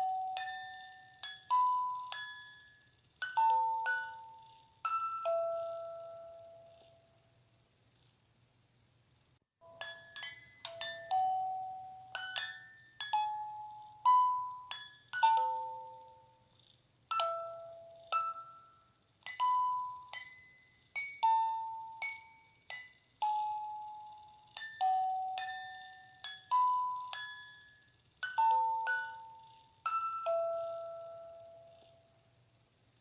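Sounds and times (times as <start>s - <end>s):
bell-like chime melody: 0.0s - 6.7s, 9.6s - 16.3s, 17.1s - 31.8s.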